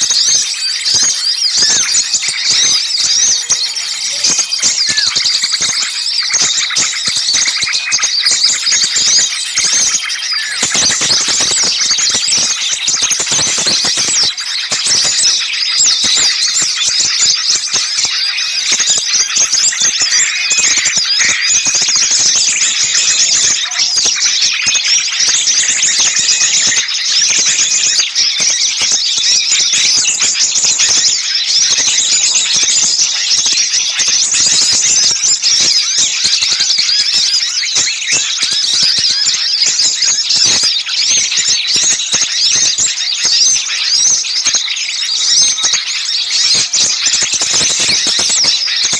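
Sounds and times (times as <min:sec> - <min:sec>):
songbirds chirping and chattering: 0:00.0 - 0:48.9.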